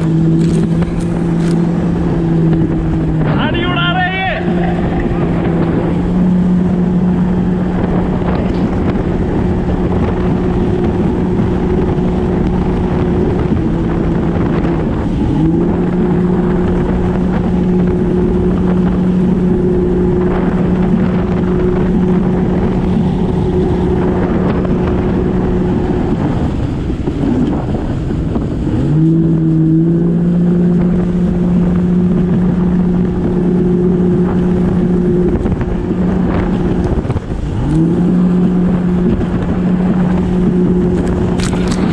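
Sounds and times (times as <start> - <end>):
water rushing: 0.0 - 41.9
watercraft engine running: 0.0 - 41.9
wind buffeting microphone: 0.0 - 41.9.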